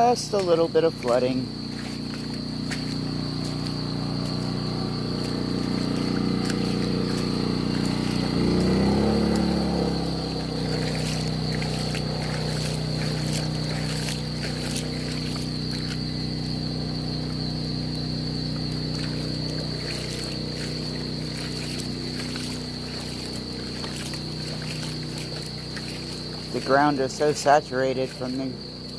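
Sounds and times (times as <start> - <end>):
insects trilling: 0.0 - 28.9
motor humming: 0.0 - 28.9.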